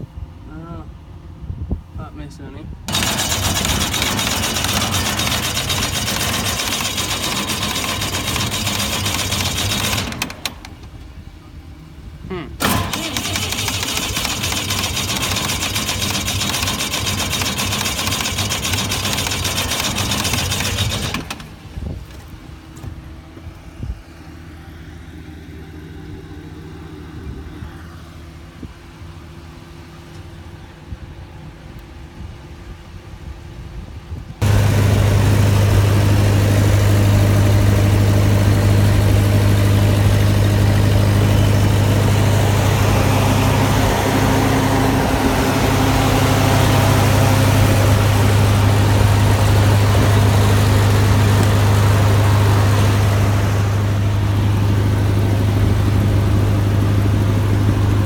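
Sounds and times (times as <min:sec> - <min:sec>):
engine running: 0:02.3 - 0:33.0, 0:34.4 - 0:58.0.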